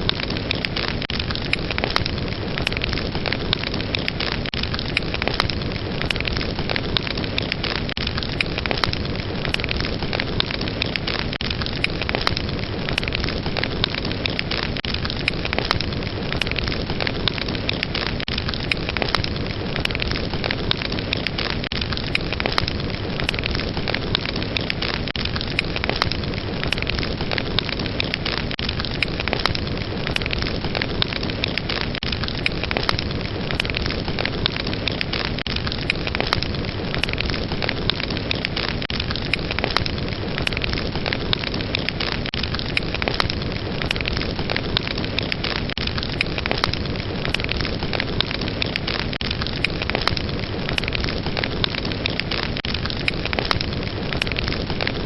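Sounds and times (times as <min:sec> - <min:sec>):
fire crackling and hissing: 0:00.0 - 0:55.0.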